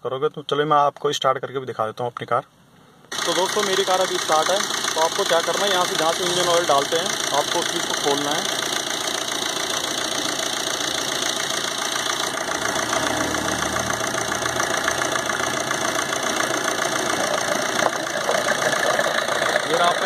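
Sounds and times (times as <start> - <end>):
diesel engine idling: 3.1 - 20.0
fast even ticking: 3.1 - 20.0.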